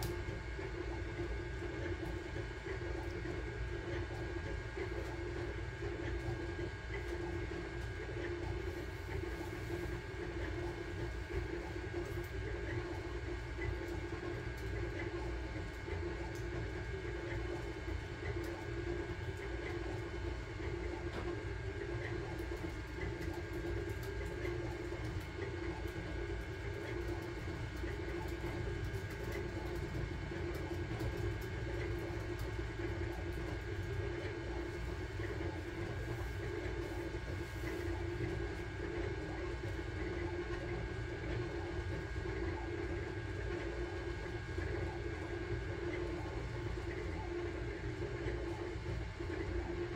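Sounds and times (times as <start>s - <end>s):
printer motors whirring: 0.0s - 49.9s.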